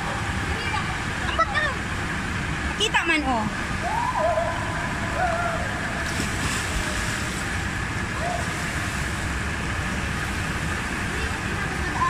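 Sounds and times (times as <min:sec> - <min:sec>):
churning pool water: 0:00.0 - 0:12.0.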